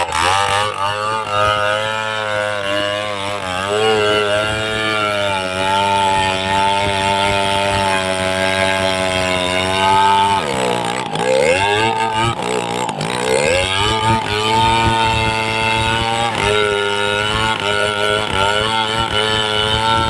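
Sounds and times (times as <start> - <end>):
chainsaw running at high revs: 0.0 - 20.0.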